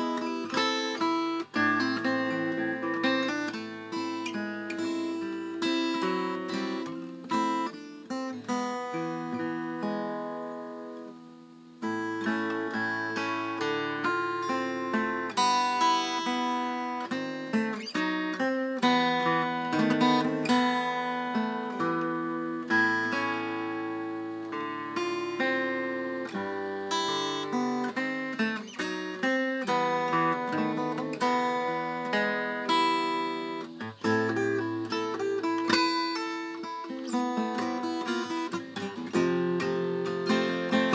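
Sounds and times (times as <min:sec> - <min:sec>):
acoustic guitar picked and strummed: 0:00.0 - 0:40.9.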